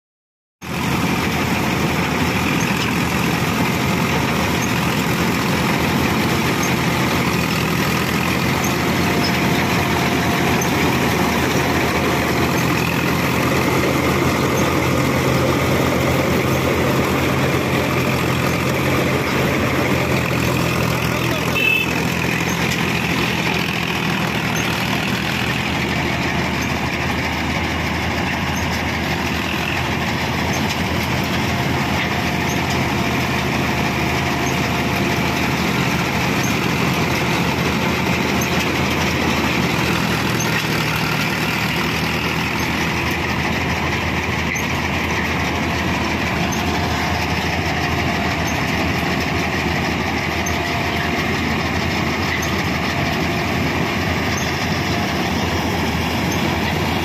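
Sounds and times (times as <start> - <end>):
diesel engine drone: 0.6 - 57.0
harvester header and threshing noise: 0.6 - 57.0.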